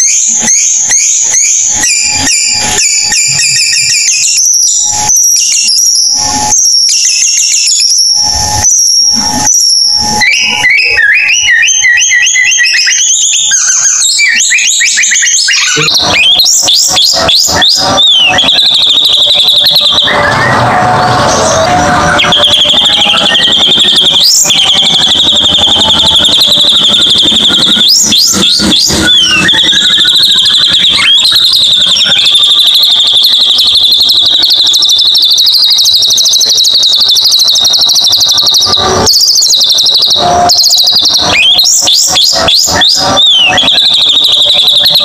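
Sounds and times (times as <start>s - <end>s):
bird whistled notes: 0.0s - 45.0s
high-pitched bird trill: 0.0s - 45.0s.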